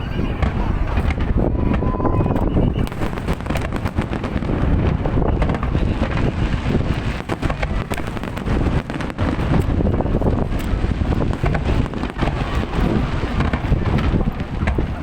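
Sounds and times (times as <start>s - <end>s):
fireworks bangs and crackles: 0.0s - 15.0s
wind on microphone: 0.0s - 15.0s.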